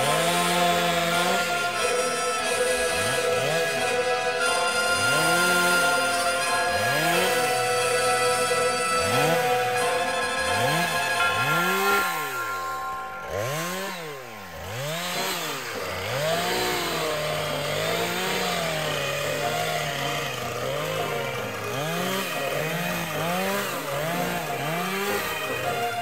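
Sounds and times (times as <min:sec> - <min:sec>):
small gas engine revving: 0:00.0 - 0:26.0.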